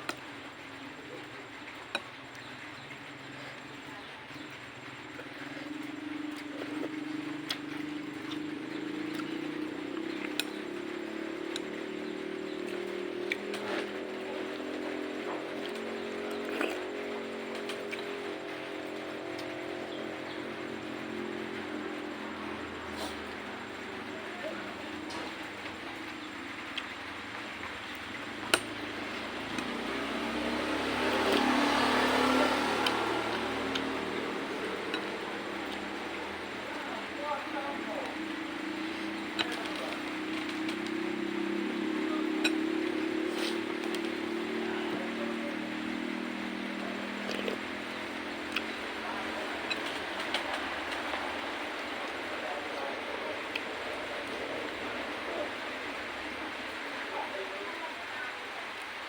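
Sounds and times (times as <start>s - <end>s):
motor humming: 2.3s - 59.0s.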